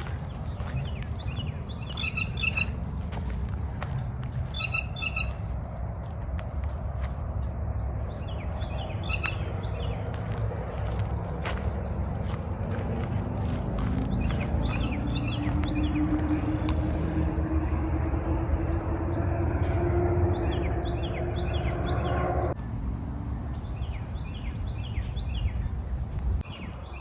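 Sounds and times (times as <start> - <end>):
songbird chirping: 0.0 - 22.5
faint droning hum: 0.0 - 26.4
steady low rumble: 0.0 - 26.6.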